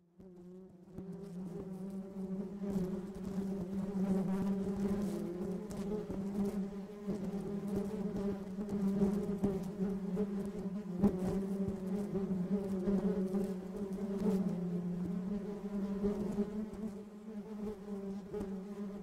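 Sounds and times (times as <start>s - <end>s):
bee wings buzzing: 1.0s - 19.0s.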